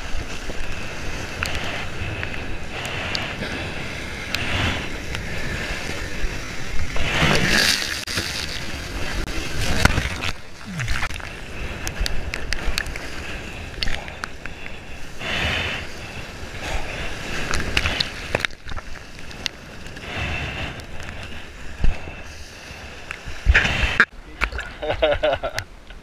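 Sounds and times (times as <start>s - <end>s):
water rushing and splashing: 0.0s - 24.9s.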